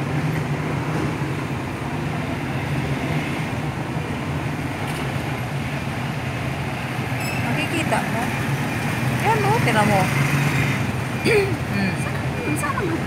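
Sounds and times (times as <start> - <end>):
road noise: 0.0 - 13.0
vehicle engines humming: 0.0 - 13.0.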